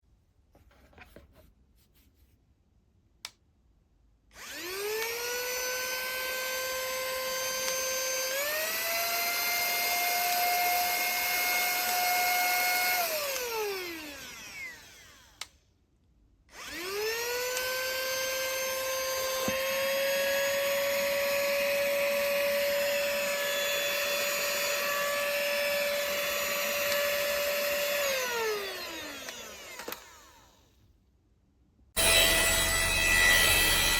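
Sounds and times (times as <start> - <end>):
handheld vacuum cleaner motor whining: 4.4 - 15.6, 16.5 - 30.7, 32.0 - 33.9.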